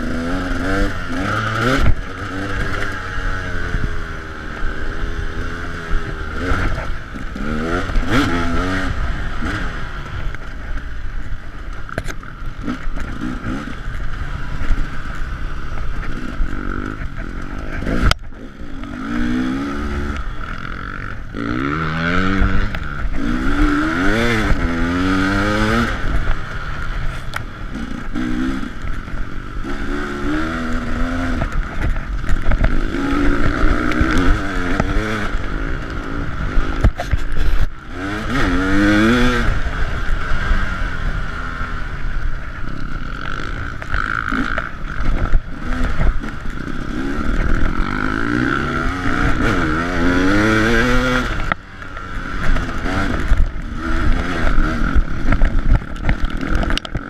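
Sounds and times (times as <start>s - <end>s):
bike rattling over rough ground: 0.0s - 57.0s
dirt bike engine revving: 0.0s - 57.0s.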